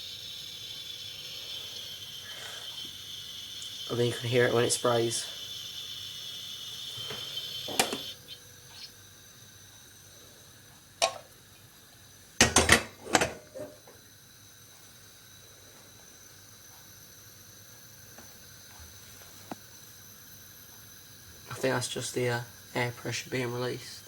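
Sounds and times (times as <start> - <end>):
hiss of coffee maker: 0.0 - 24.0.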